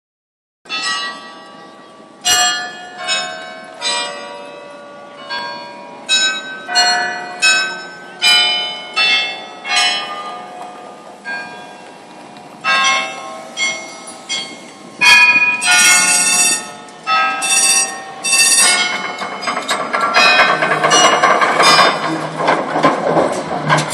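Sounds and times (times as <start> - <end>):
bells dinging: 0.7 - 22.8
low street hum: 0.7 - 23.9.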